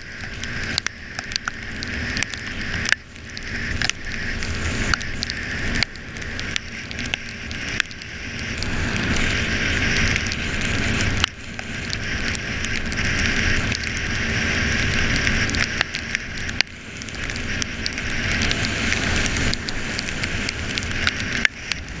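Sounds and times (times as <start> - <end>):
crackles: 0.0 - 22.0
motorcycle engine rumbling: 0.0 - 22.0
wind and rain rushing: 0.0 - 22.0.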